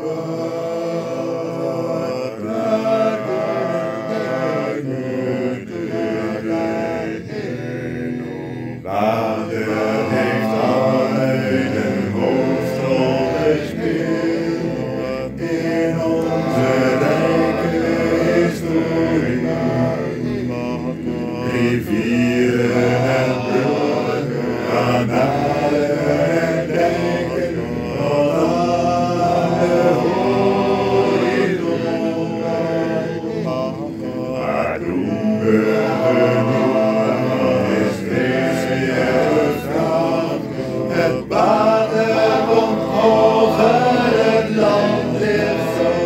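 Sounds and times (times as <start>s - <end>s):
a cappella close harmony singing: 0.0s - 46.0s.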